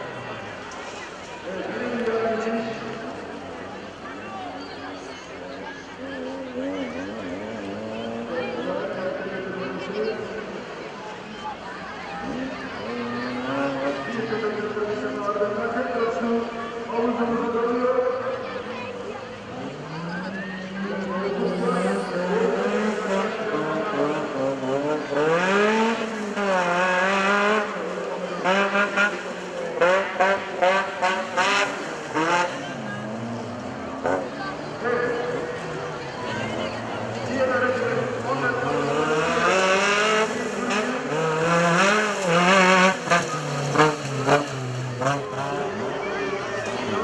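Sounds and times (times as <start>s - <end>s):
race vehicle engine revving: 0.0s - 47.0s.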